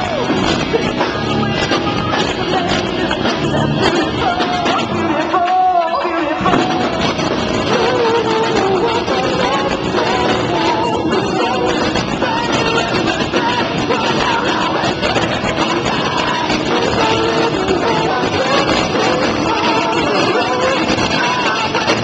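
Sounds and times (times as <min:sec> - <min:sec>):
electric guitar: 0:00.0 - 0:22.0
man singing into microphone: 0:00.0 - 0:22.0
rock band playing live: 0:00.0 - 0:22.0.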